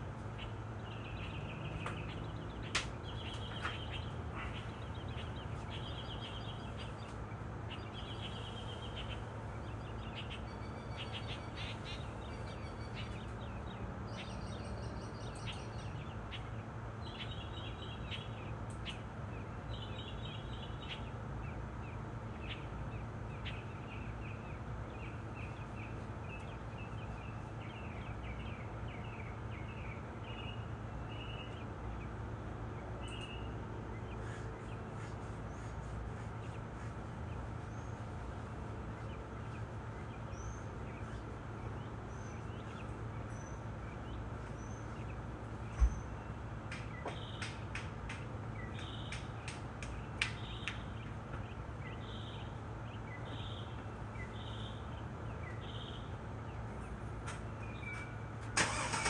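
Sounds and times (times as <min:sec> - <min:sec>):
birds singing and chirping: 0:00.0 - 0:59.0.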